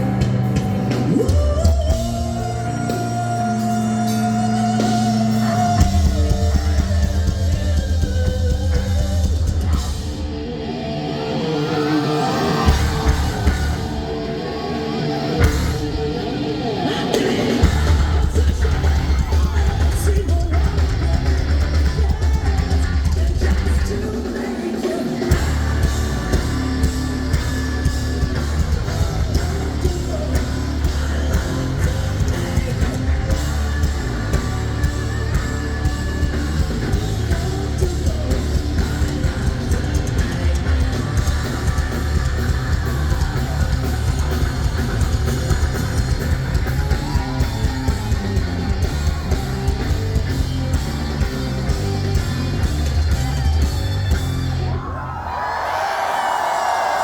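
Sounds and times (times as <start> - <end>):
heavy bass: 0.0 - 24.3, 25.2 - 57.0
distorted electric guitar: 0.0 - 55.0
pounding drum kit: 0.0 - 57.0.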